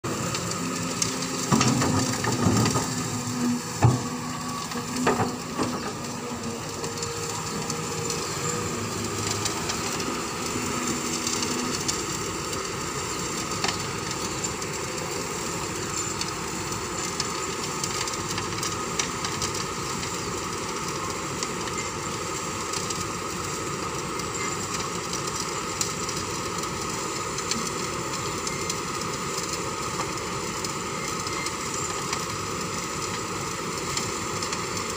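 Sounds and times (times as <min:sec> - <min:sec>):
excavator engine droning: 0:00.0 - 0:34.9.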